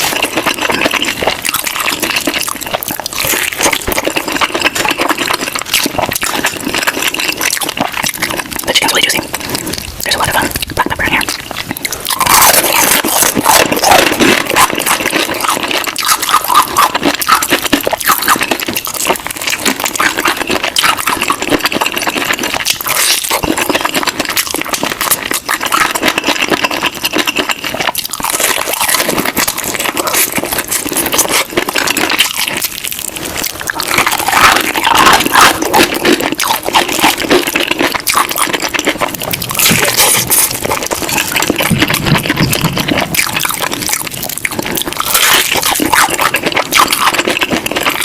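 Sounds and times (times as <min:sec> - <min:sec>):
crunching fried chicken: 0:00.0 - 0:48.0.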